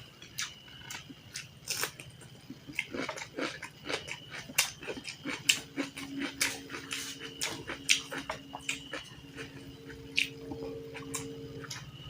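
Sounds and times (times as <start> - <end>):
faint steady hum: 0.0 - 12.0
chewing food in the mouth: 0.2 - 12.0.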